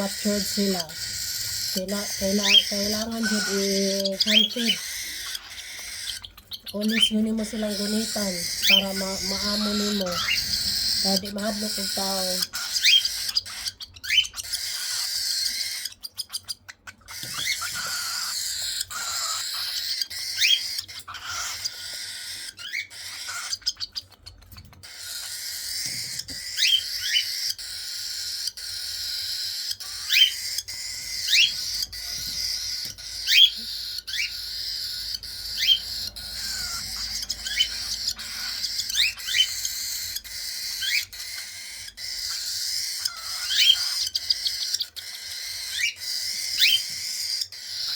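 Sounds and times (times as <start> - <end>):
cockatiel chicks begging: 0.0 - 47.9.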